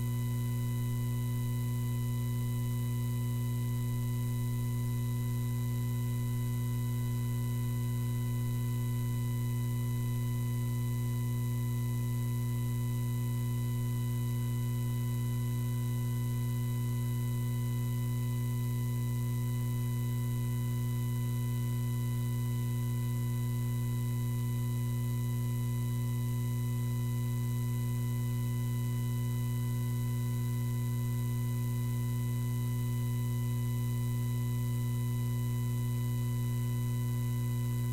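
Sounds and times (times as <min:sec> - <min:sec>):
electrical mains hum: 0:00.0 - 0:37.9.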